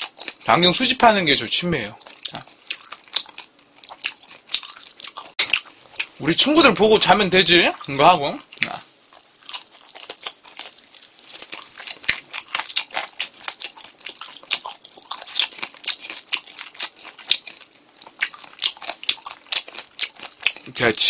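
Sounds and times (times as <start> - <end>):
person chewing and crunching chicken: 0.0 - 0.6, 1.8 - 6.2, 7.0 - 20.9.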